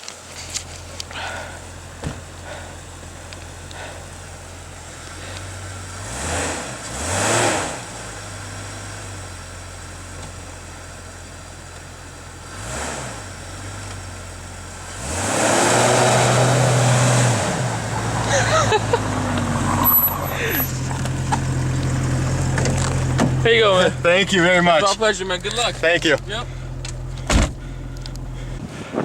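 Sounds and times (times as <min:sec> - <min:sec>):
tyres spinning in snow: 0:00.0 - 0:10.9, 0:12.0 - 0:27.3
car engine revving: 0:00.3 - 0:28.7.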